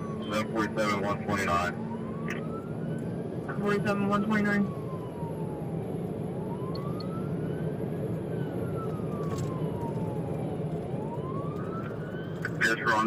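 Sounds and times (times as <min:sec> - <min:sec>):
police siren wailing: 0:00.0 - 0:13.0
vehicle and road noise: 0:00.0 - 0:13.0.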